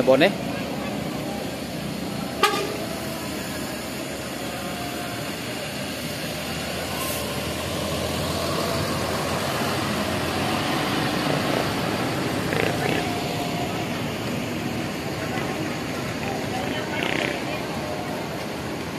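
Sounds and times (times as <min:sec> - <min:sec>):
bus diesel engine rumbling: 0:00.0 - 0:18.9.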